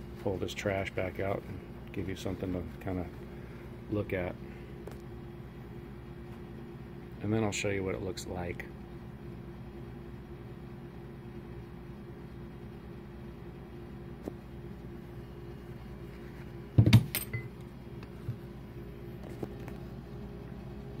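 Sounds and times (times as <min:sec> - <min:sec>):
low workshop hum: 0:00.0 - 0:21.0.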